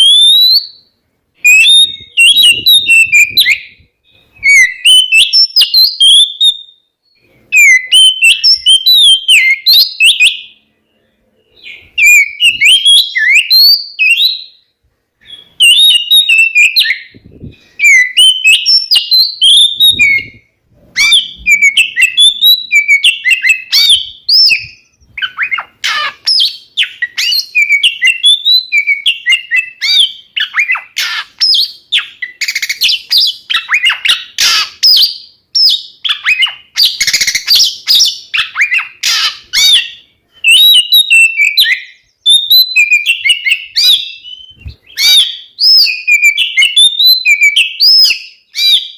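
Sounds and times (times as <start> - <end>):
bird singing whistled notes: 0.0 - 48.9.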